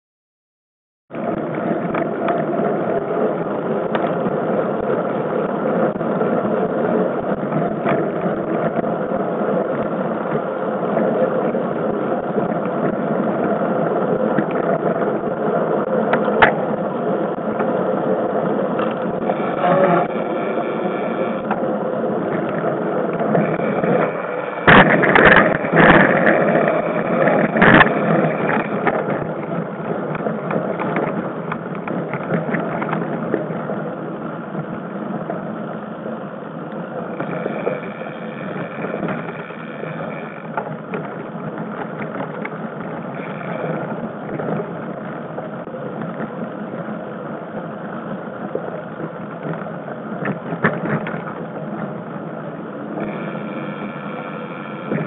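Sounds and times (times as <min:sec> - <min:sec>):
bike tyres rumbling and rattling: 0:01.1 - 0:55.0.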